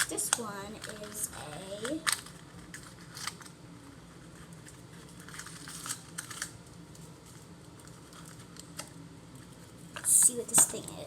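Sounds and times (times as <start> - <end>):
packaging clicks and rustles: 0.0 - 3.6, 4.2 - 10.2.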